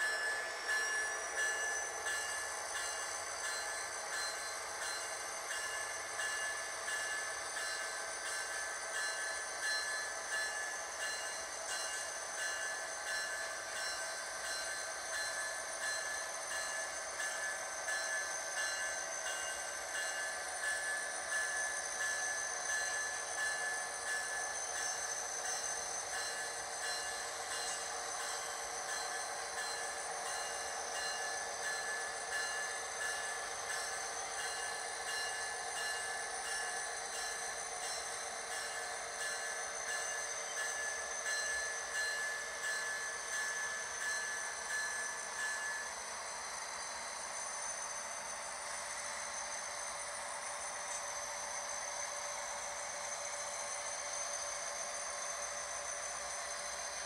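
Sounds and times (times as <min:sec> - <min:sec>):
model locomotive engine sound: 0:00.0 - 0:57.0.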